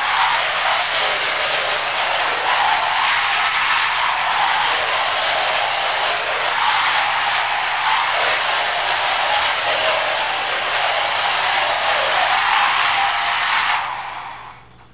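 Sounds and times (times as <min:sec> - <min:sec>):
rc car electric motor whirring: 0:00.0 - 0:14.5.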